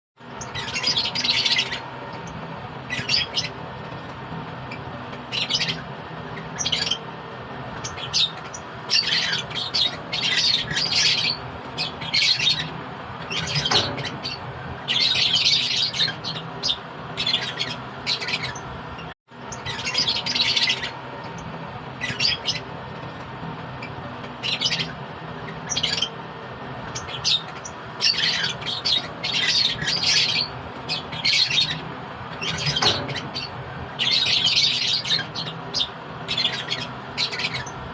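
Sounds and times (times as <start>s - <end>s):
birds squawking and chirping: 0.2s - 37.9s
steady low hum: 0.2s - 37.9s.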